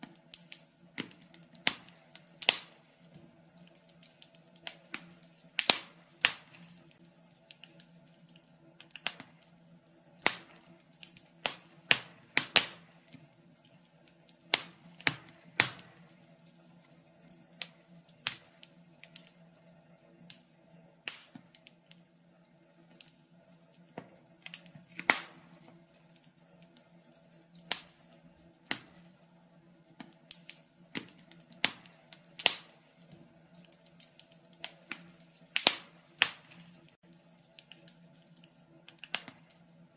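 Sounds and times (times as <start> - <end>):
faint steady low hum: 0.0 - 39.9
logs crackling in fireplace: 0.0 - 39.9.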